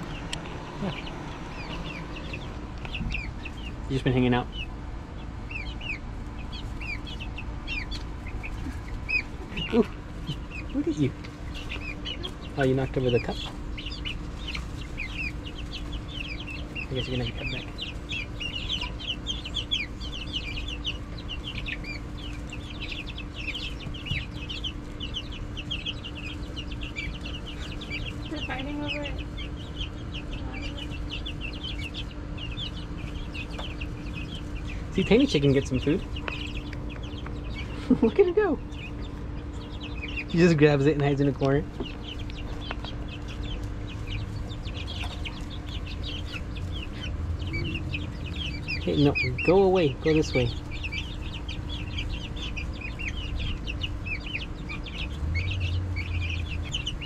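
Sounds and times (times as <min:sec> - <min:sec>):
chicks peeping: 0:00.0 - 0:57.0
steady low hum: 0:00.0 - 0:57.0.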